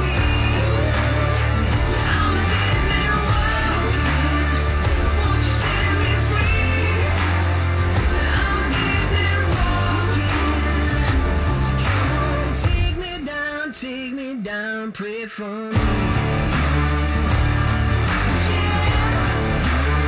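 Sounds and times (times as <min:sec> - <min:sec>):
alternative rock music: 0:00.0 - 0:20.0.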